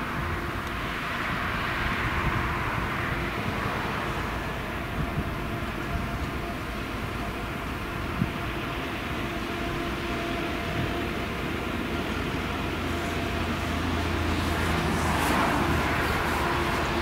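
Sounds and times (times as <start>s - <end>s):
faint steady machine whine: 0.0s - 17.0s.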